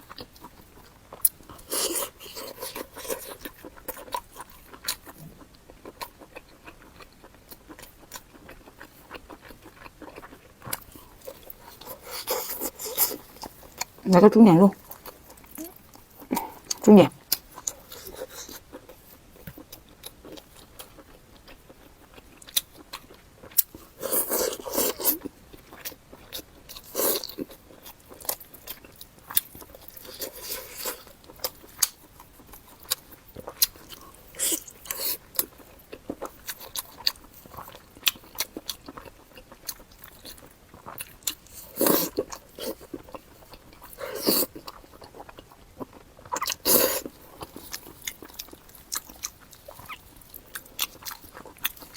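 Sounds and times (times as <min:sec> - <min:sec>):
close chewing with mouth clicks: 0:00.0 - 0:51.9.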